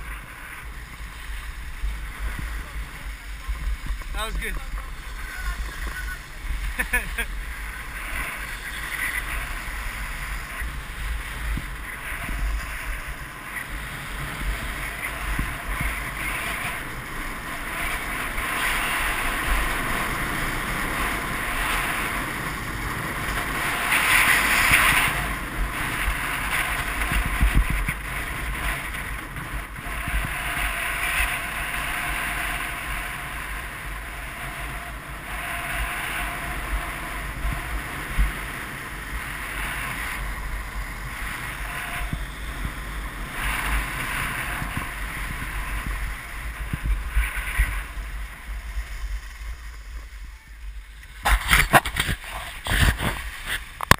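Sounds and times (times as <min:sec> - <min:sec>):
skis scraping over snow: 0:00.0 - 0:53.9
wind buffeting microphone: 0:00.0 - 0:53.9.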